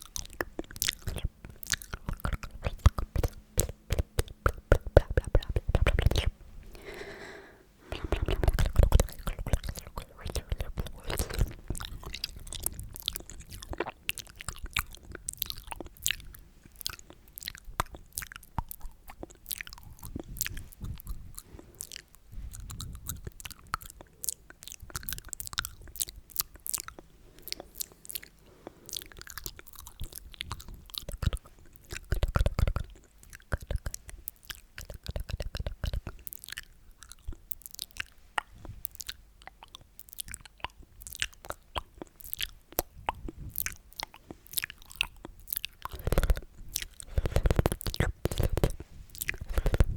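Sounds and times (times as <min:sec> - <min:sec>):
wet mouth clicks and smacks: 0:00.0 - 0:07.0, 0:07.9 - 0:49.9.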